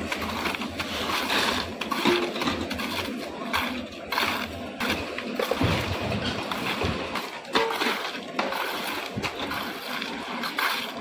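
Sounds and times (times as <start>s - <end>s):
trowels scraping wet concrete: 0.0s - 11.0s.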